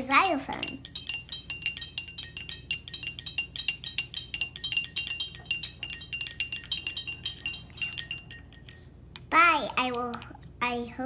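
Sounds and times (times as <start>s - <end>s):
pencils clinking glass jars: 0.0s - 10.2s.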